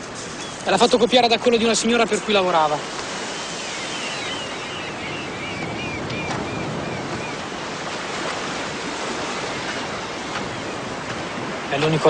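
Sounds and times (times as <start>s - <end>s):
surf washing on rocky shore: 0.0s - 12.0s.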